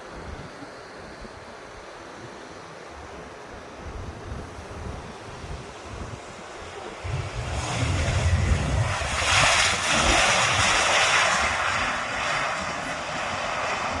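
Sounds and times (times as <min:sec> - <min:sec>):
airliner passing low overhead: 0:00.0 - 0:14.0.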